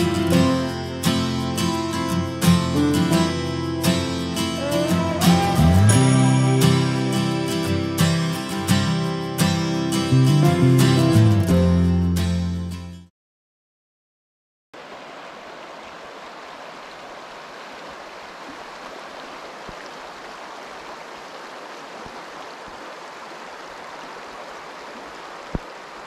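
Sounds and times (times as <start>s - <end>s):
rushing stream water: 0.0s - 10.1s, 14.8s - 26.0s.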